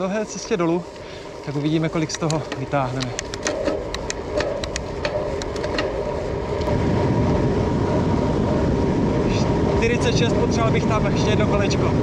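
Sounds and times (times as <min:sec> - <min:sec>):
bike tyre rumble: 0:00.0 - 0:12.0
wind rushing: 0:00.0 - 0:12.0.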